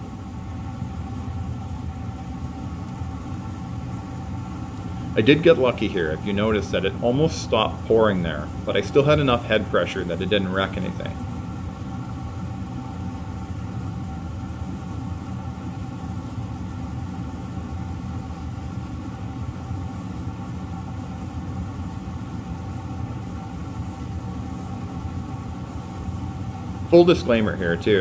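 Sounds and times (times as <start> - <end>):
machine running steadily: 0.0 - 28.0.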